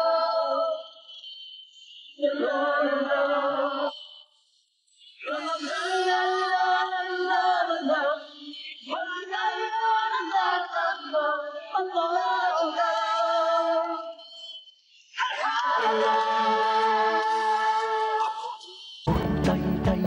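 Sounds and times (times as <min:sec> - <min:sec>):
wordless singing over music: 0:00.0 - 0:04.2, 0:05.0 - 0:20.0.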